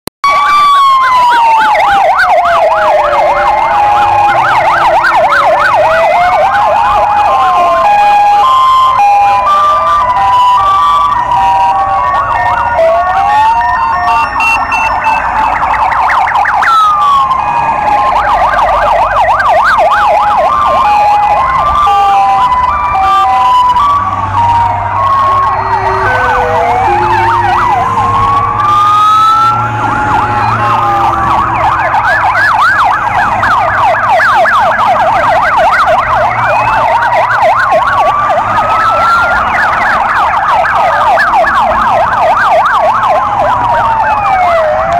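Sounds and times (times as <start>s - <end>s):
police sirens wailing: 0.2s - 44.9s.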